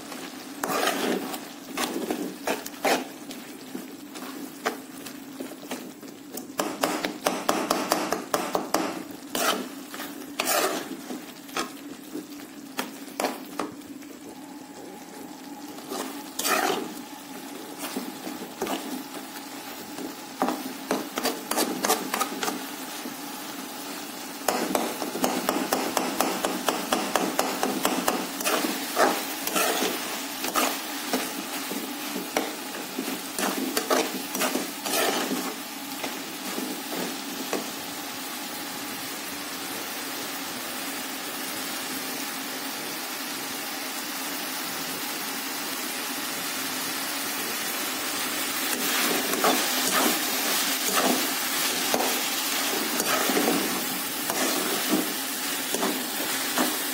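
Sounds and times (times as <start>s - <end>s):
light sizzle of frying: 0.0s - 56.9s.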